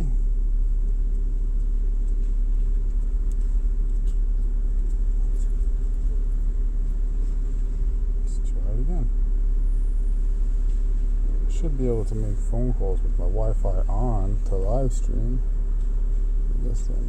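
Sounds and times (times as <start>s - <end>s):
droning hum: 0.0s - 17.0s
low rumble: 0.0s - 17.0s.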